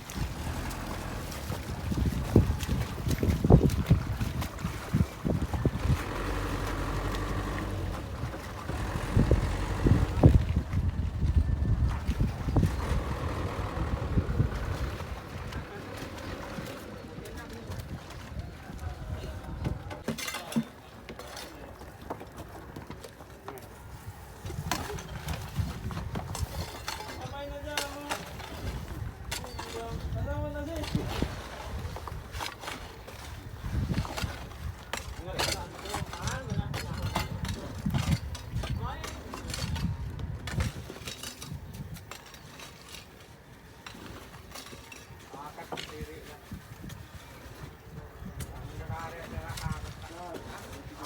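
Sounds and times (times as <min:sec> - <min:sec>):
wind rumble on microphone: 0:00.0 - 0:20.1, 0:23.8 - 0:43.0, 0:45.9 - 0:51.0.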